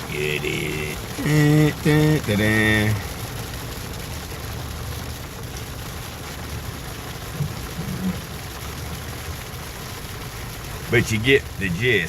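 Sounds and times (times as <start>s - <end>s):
rain and ice pellets hissing: 0.0s - 12.0s.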